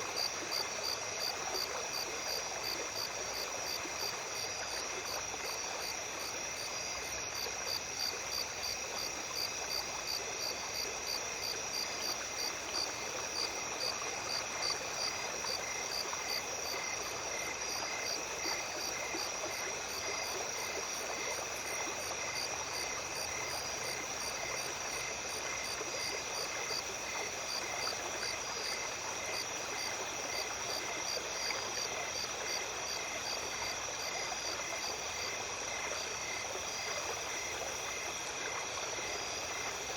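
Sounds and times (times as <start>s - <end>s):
insects trilling and chirping: 0.0s - 39.9s
stream babbling: 0.0s - 39.9s.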